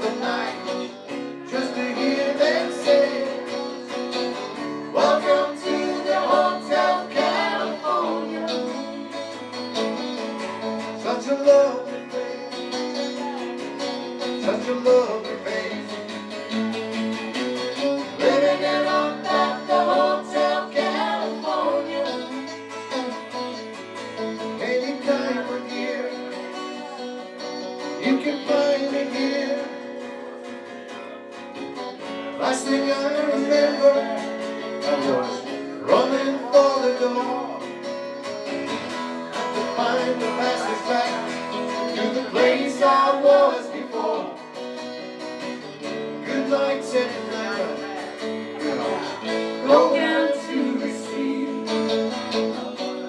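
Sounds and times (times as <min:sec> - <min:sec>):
person singing: 0:00.0 - 0:23.5, 0:24.2 - 0:44.7, 0:45.4 - 0:53.0
acoustic guitar: 0:00.0 - 0:53.0
electric guitar: 0:00.0 - 0:53.0.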